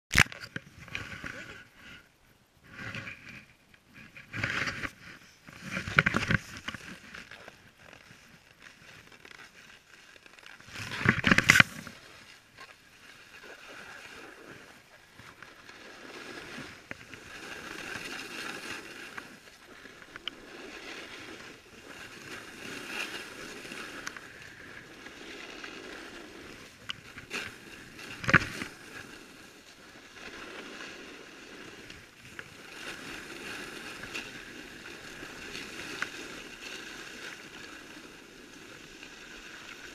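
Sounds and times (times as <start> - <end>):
snowboard scraping on snow: 2.6 - 39.9.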